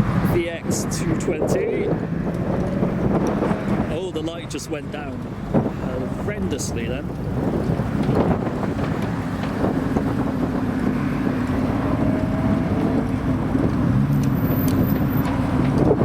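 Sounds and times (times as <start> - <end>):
car engine passing slowly: 0.0 - 16.0.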